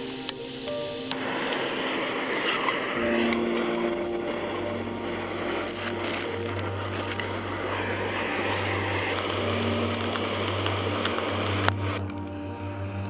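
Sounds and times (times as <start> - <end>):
gas stove roaring hiss: 0.0 - 13.0
low hum: 0.0 - 13.0.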